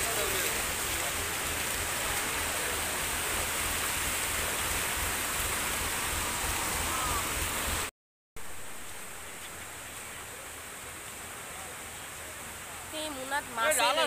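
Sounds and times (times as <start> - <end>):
floodwater rushing and splashing: 0.0 - 14.0.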